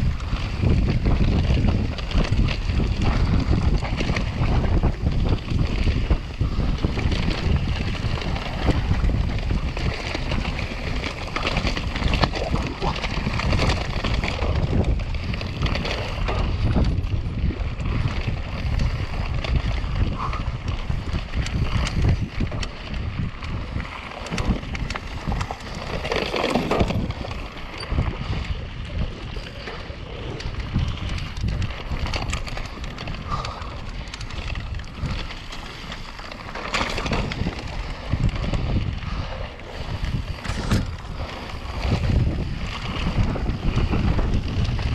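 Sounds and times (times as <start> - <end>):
bike clicks and rattles: 0.0 - 44.9
tyre noise on trail: 0.0 - 44.9
wind rumbling on microphone: 0.0 - 44.9.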